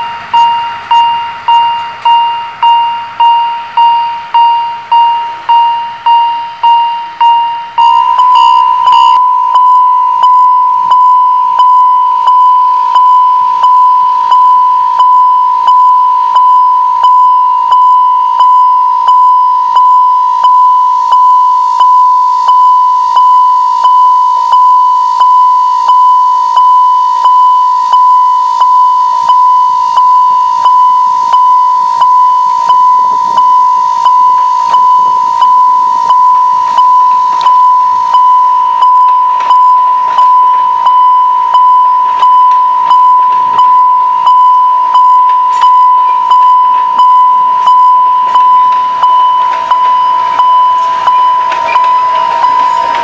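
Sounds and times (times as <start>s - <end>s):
level crossing warning bell: 0.0s - 53.0s.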